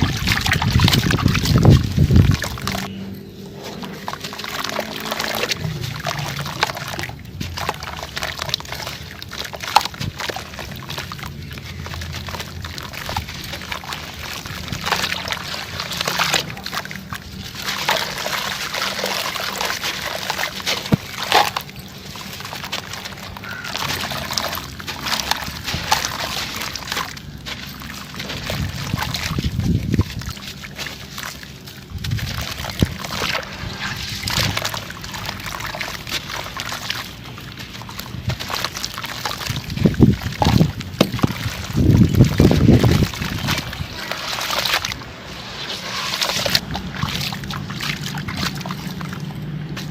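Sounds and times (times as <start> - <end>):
dry chunks being crushed: 0.0 - 45.1, 45.9 - 49.9
grains pouring and sliding: 0.0 - 49.2.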